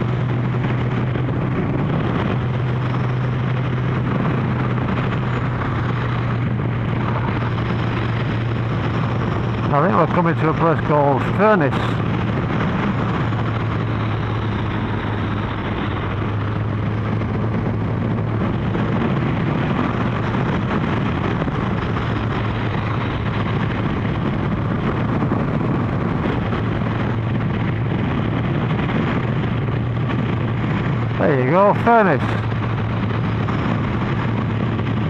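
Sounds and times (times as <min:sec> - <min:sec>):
motorcycle engine cruising: 0:00.0 - 0:35.0
wind and road noise: 0:00.0 - 0:35.0.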